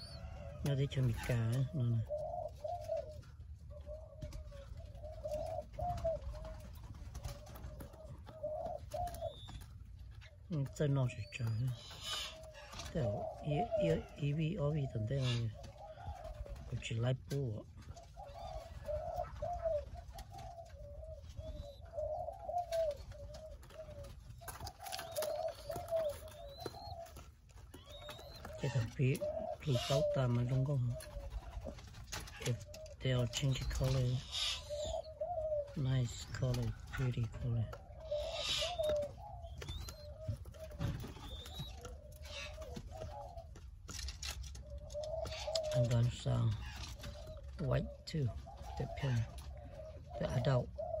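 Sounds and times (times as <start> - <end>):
small bird chirp: 0.0 - 14.2, 18.0 - 49.2
dove cooing: 0.0 - 51.0.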